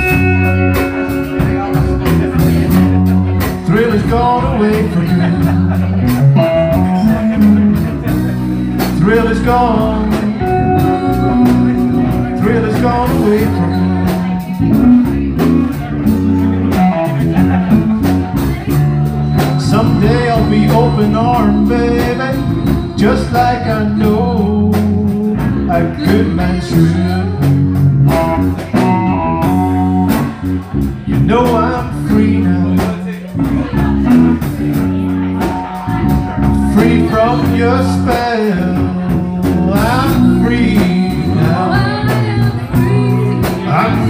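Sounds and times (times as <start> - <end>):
blues guitar: 0.0 - 44.0
drums: 0.0 - 44.0
electric bass: 0.0 - 44.0.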